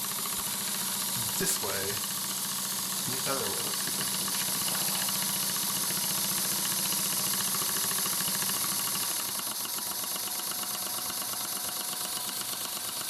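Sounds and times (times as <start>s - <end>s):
model steam engine chuffing: 0.0s - 13.0s.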